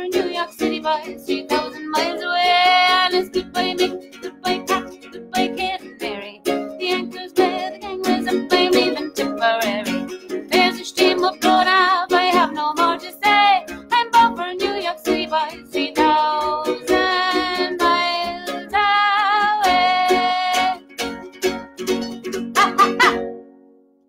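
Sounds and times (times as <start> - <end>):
woman singing folk song: 0.0 - 21.0
strummed ukulele: 0.0 - 23.9.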